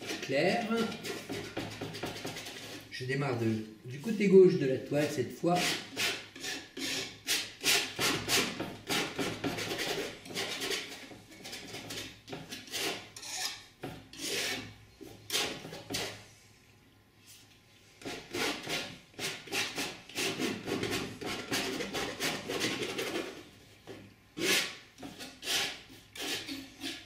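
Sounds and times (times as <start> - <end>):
painting knife scraping canvas: 0.0 - 3.0, 5.0 - 16.2, 17.2 - 23.5, 24.4 - 27.0.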